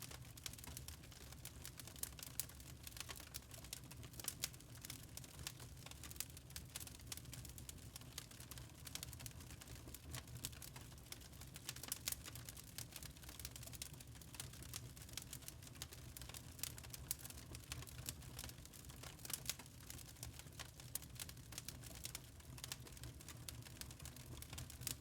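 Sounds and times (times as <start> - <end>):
log fire crackling and popping: 0.1 - 25.0.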